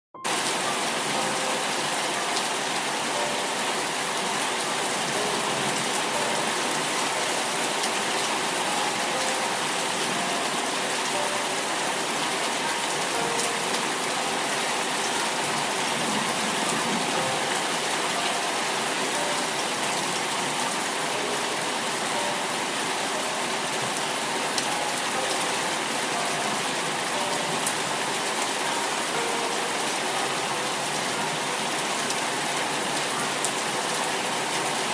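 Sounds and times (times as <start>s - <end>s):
rain falling on a surface: 0.2s - 34.9s.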